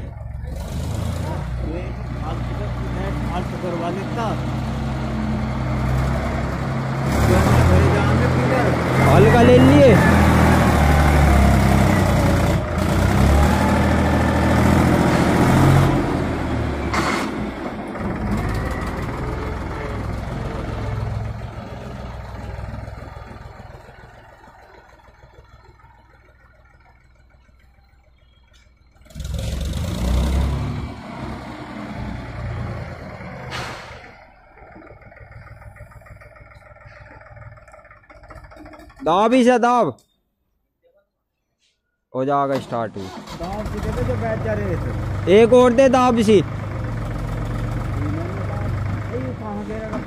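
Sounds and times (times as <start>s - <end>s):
tractor diesel engine running: 0.0s - 39.6s, 43.0s - 50.0s.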